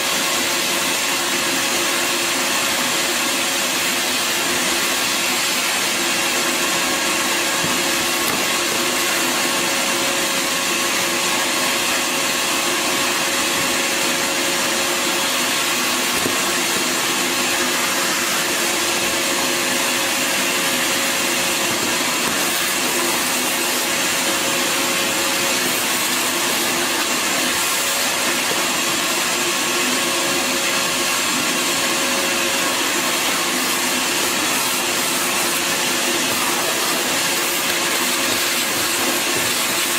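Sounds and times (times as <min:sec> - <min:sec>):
shop vacuum running: 0:00.0 - 0:39.9.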